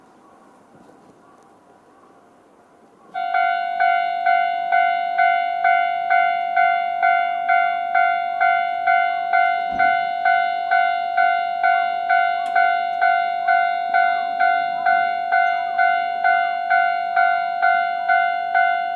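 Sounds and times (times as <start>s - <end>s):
level crossing warning bell: 3.1s - 18.9s.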